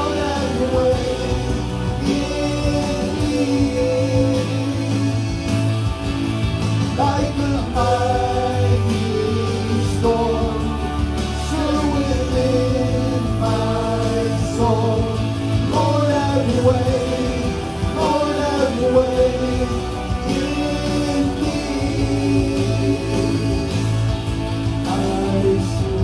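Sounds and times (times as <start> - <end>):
sustained instrumental accompaniment: 0.0 - 26.0
voices singing worship song: 0.0 - 26.0.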